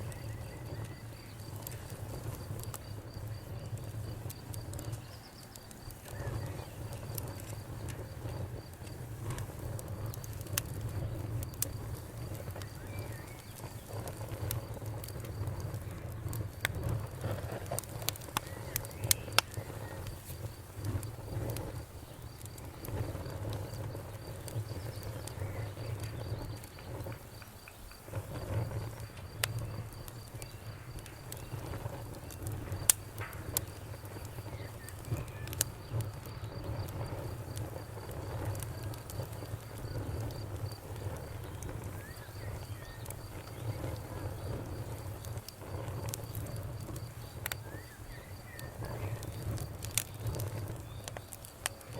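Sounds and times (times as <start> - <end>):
fire crackling and popping: 0.0 - 51.9
low rumble of flames: 0.0 - 51.9.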